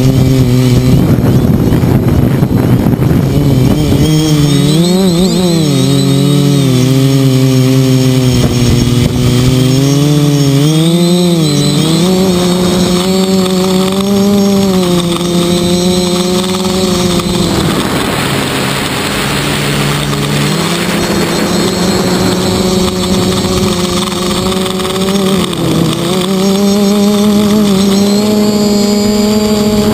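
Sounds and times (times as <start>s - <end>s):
drone propellers buzzing: 0.0s - 29.9s
high whine: 0.0s - 29.9s.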